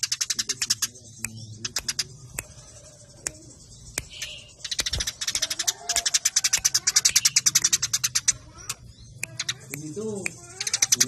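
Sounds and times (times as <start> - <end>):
sparrows chirping rapidly: 0.0 - 11.0.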